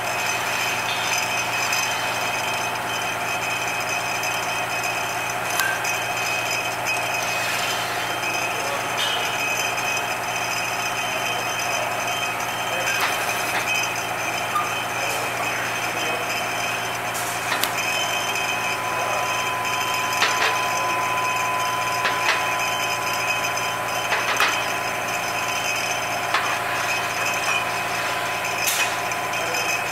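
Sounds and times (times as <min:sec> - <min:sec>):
conveyor machinery hum: 0:00.0 - 0:29.9
glass bottles clinking: 0:00.0 - 0:29.9
thin steady whine: 0:00.0 - 0:29.9.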